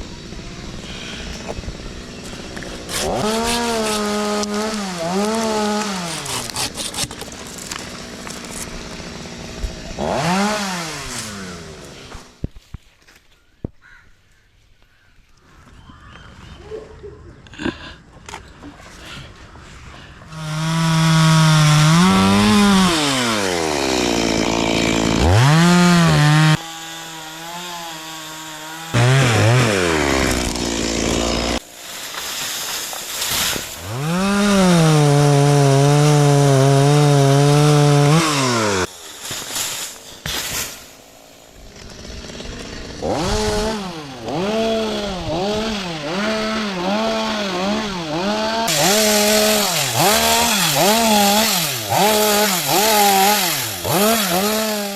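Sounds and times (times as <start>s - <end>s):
chainsaw revving: 0.0s - 12.4s, 20.3s - 39.0s, 40.5s - 54.9s.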